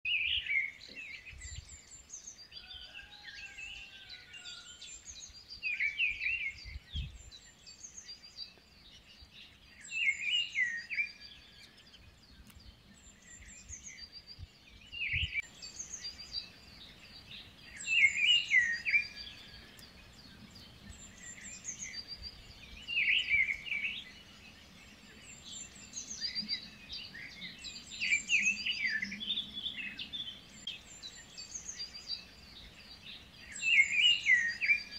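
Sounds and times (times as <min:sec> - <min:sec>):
birds chirping song: 0:00.1 - 0:34.9.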